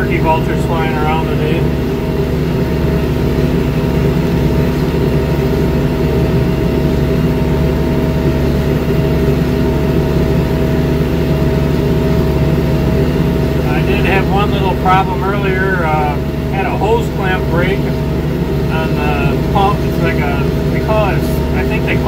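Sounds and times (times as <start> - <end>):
constant tone: 0.0 - 22.0
tractor diesel engine droning: 0.0 - 22.0.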